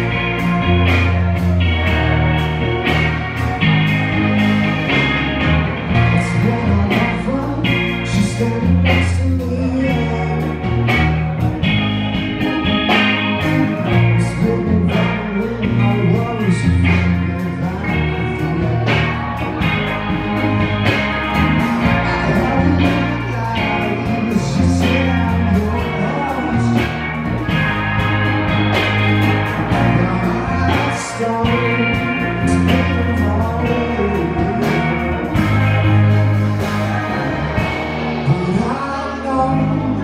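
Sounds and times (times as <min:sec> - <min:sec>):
bass line: 0:00.0 - 0:40.0
drums: 0:00.0 - 0:40.0
electric guitar: 0:00.0 - 0:40.0.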